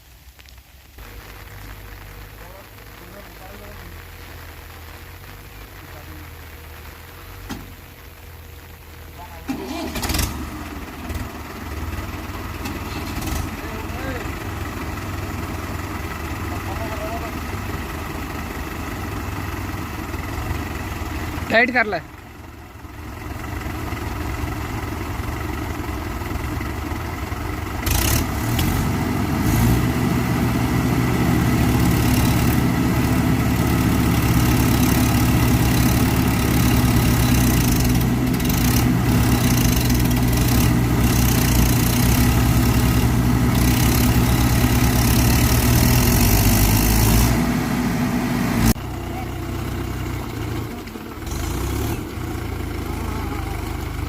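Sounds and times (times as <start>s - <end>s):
tractor diesel engine revving: 1.2s - 54.0s.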